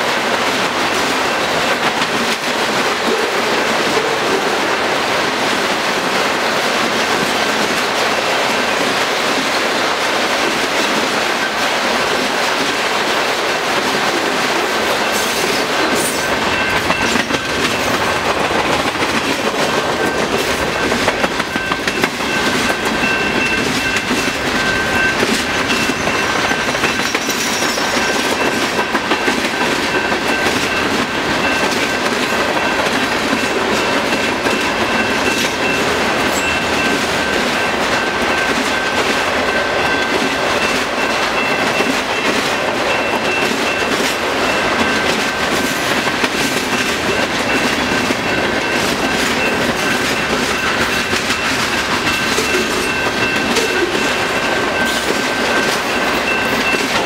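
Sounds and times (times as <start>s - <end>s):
freight train rumbling past: 0.0s - 57.0s
wheels clacking over rail joints: 0.0s - 57.0s.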